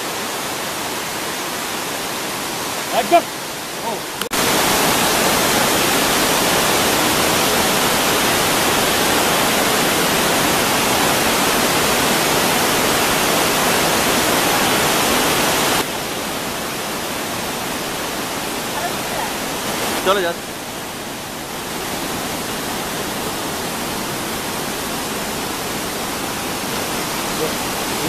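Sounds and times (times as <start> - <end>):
waterfall roaring: 0.0 - 28.0.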